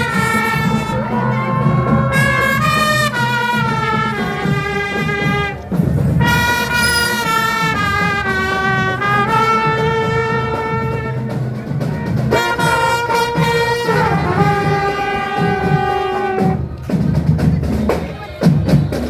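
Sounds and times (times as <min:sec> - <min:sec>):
brass band playing held notes: 0:00.0 - 0:19.0
drums: 0:00.0 - 0:19.0.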